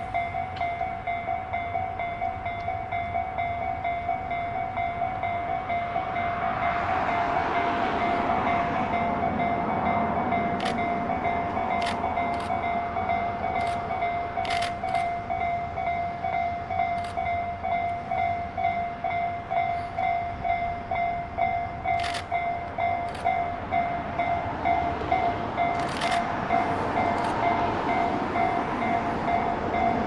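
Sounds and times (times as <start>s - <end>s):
train noise: 0.0s - 30.0s.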